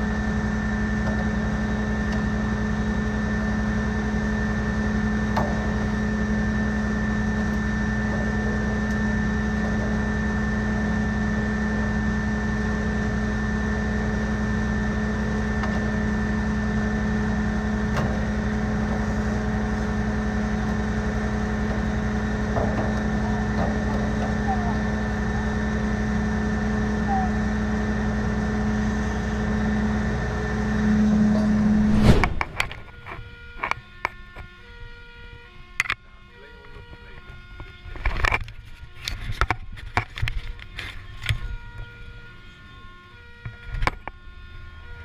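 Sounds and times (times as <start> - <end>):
fire engine pump droning: 0.0 - 45.0.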